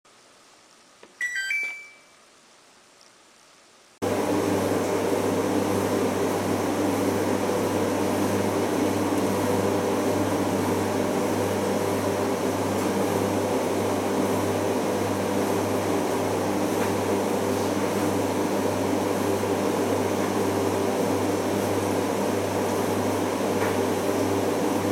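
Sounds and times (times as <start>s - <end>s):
washing machine hum: 0.1s - 24.9s.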